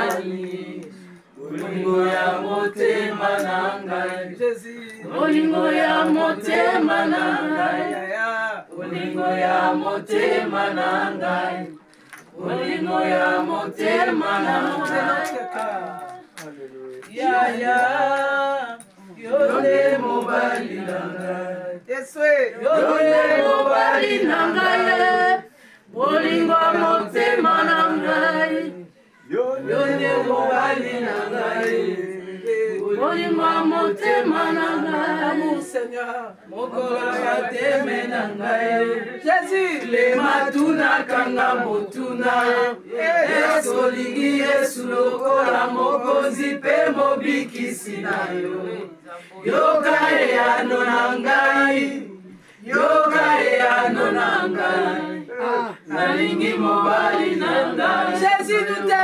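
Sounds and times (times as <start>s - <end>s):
women singing unaccompanied: 0.0s - 16.4s, 17.1s - 21.8s, 22.6s - 59.0s.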